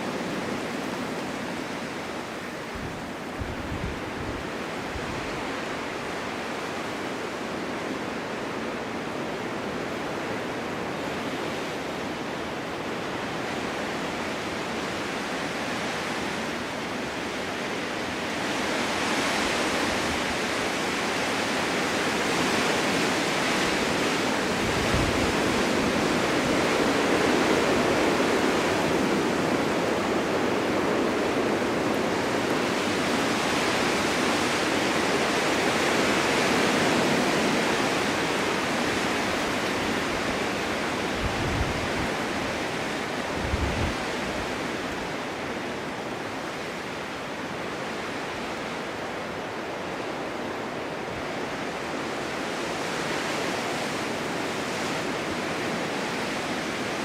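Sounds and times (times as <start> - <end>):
blizzard wind rushing: 0.0 - 8.2, 9.0 - 57.0.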